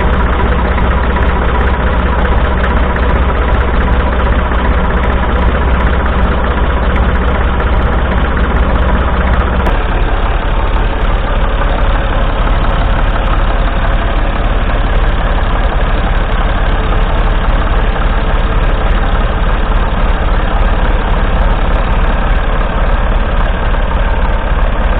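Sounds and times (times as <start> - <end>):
diesel tractor engine running: 0.0 - 24.9.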